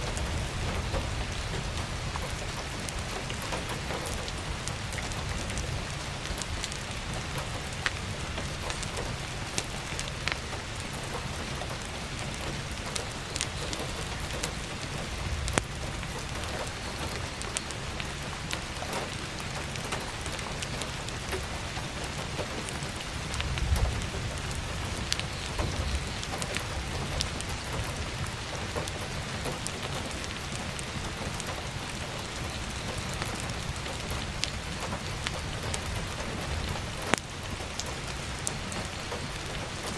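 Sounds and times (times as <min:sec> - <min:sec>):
firewood popping and crackling: 0:00.0 - 0:39.9
heavy rain falling: 0:00.0 - 0:39.9.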